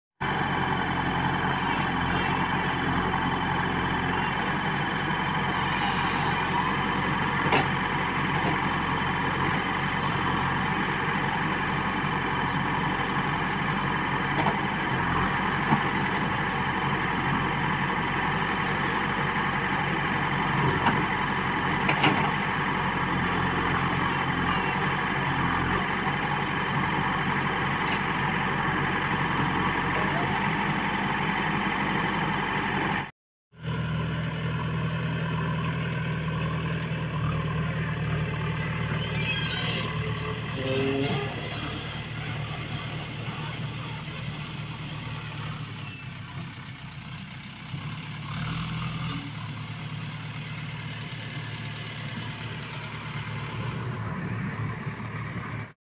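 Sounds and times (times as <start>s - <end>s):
diesel engine running: 0.2s - 55.8s.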